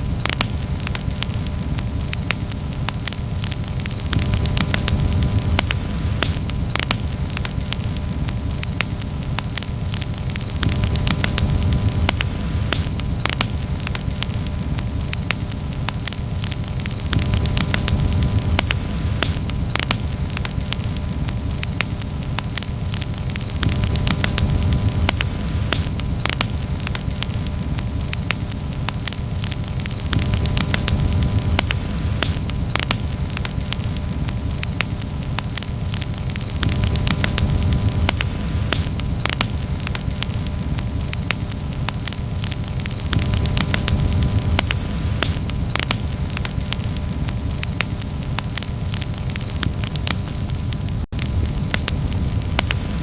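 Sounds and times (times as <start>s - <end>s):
campfire popping and snapping: 0.0s - 53.0s
low rumble of burning wood: 0.0s - 53.0s.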